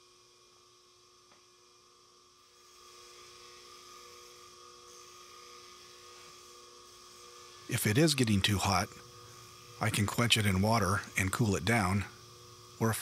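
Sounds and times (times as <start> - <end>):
bench grinder humming: 0.0 - 13.0
steel grinding hiss: 0.0 - 13.0.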